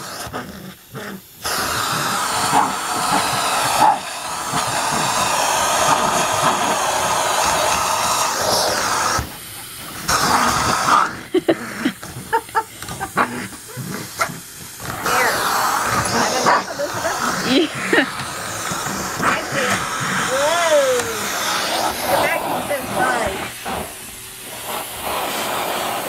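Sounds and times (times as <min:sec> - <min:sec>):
dog biting vacuum nozzle: 0:00.0 - 0:26.0
vacuum cleaner suction hiss: 0:00.0 - 0:26.0.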